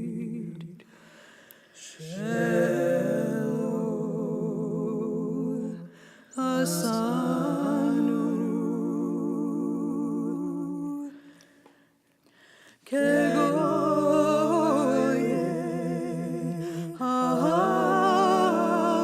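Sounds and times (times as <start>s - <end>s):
a cappella voices singing chords: 0.0s - 19.0s.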